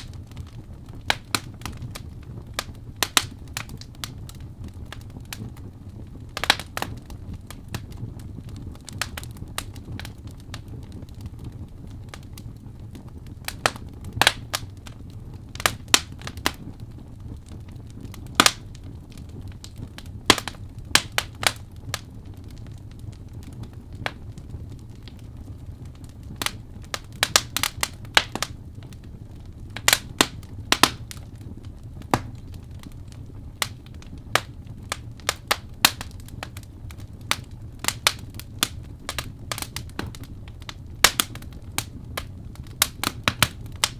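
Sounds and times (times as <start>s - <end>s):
low steady rumble: 0.0s - 43.9s
wood fire crackling and popping: 0.0s - 43.9s.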